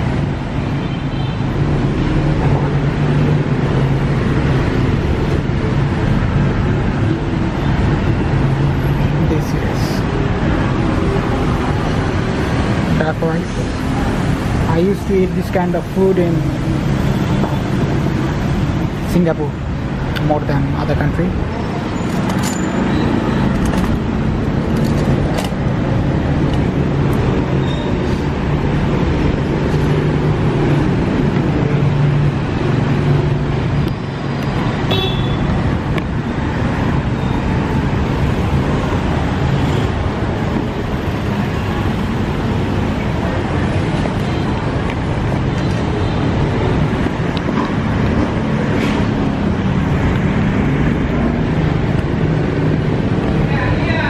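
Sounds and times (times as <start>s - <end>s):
street traffic noise: 0.0s - 54.0s.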